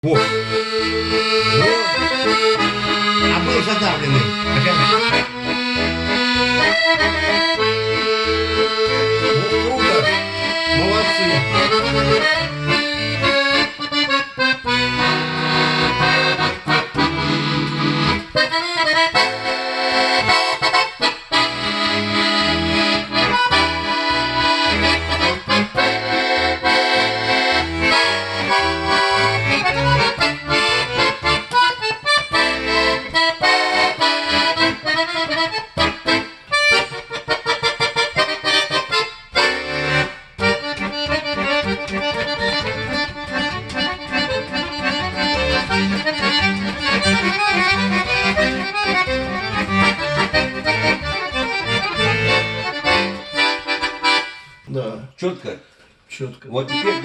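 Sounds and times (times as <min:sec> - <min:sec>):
button accordion playing: 0:00.0 - 0:54.7, 0:56.5 - 0:57.0.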